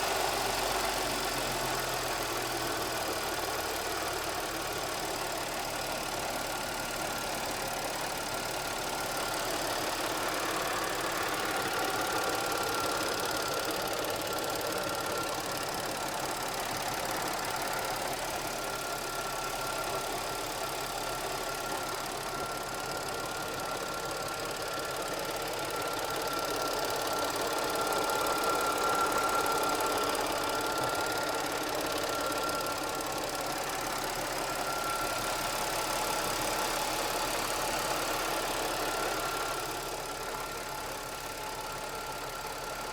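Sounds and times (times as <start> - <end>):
car engine idling: 0.0 - 42.9
engine rattling and knocking: 0.0 - 42.9.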